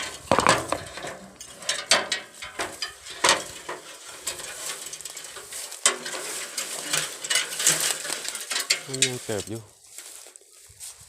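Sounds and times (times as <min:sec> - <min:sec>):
rustling and crackling: 0:00.0 - 0:11.0.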